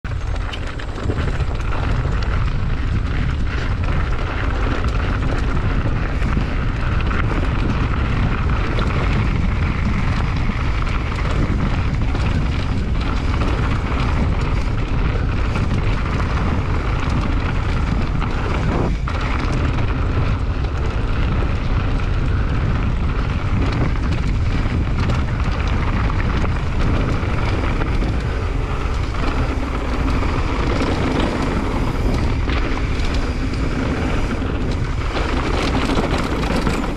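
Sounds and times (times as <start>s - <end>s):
bike rattles and clicks: 0.0s - 36.9s
wind rumble on microphone: 0.0s - 36.9s
tyres rolling over dirt: 0.1s - 36.9s.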